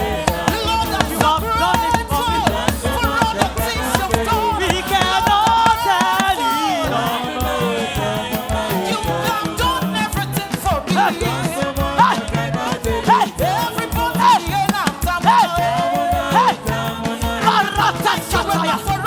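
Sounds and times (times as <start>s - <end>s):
band with fast percussion beat: 0.0s - 19.0s
gospel singers: 0.0s - 19.0s.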